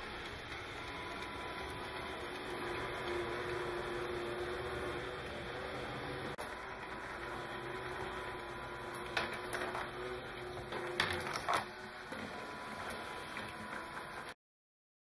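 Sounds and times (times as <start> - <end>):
electric motors and gears humming: 0.0 - 14.4.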